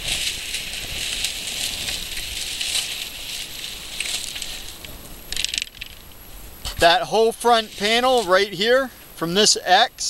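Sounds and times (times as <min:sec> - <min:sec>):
rustling: 0:00.0 - 0:08.9.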